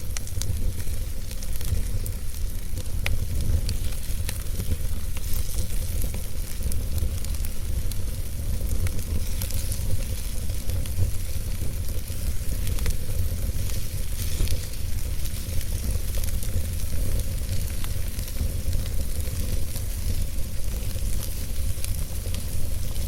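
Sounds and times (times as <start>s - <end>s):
fire rumbling: 0.0s - 23.0s
logs crackling and popping: 0.0s - 23.0s.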